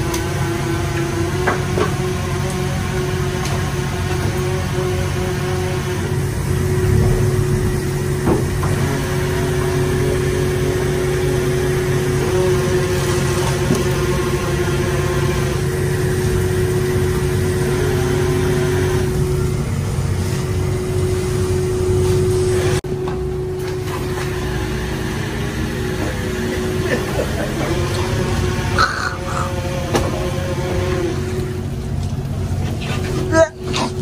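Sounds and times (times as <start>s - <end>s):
engine droning: 0.0s - 34.0s.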